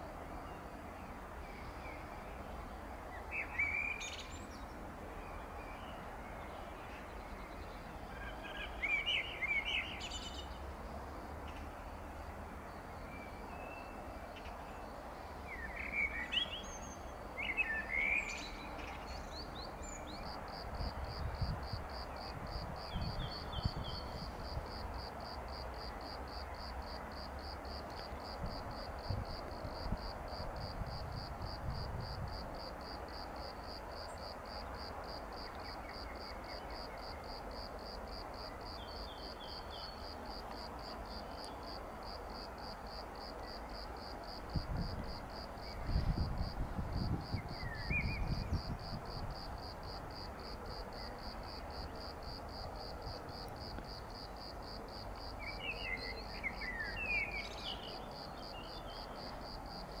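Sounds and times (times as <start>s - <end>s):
cricket chirping: 11.8s - 60.0s.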